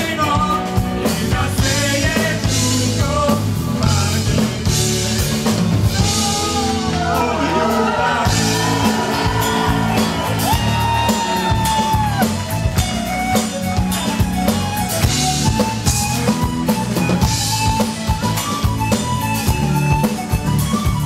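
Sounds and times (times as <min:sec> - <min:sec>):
drum kit beat: 0:00.0 - 0:21.0
live band playing upbeat song: 0:00.0 - 0:21.0.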